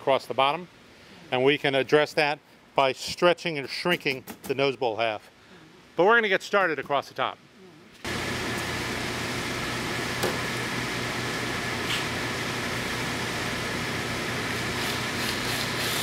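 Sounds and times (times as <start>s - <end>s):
mechanical hum and hiss: 0.0s - 16.0s.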